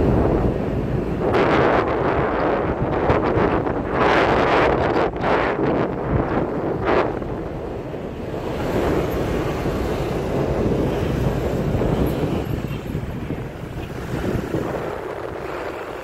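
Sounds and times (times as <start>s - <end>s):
road traffic noise: 0.0s - 16.0s
wind rushing over microphone: 0.0s - 16.0s.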